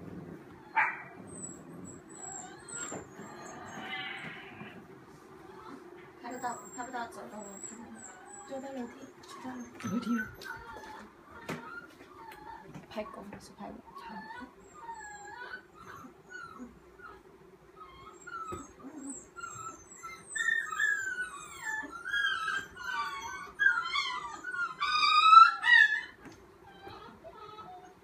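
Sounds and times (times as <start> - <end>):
puppy whining and crying: 0.0 - 13.2, 13.8 - 28.0.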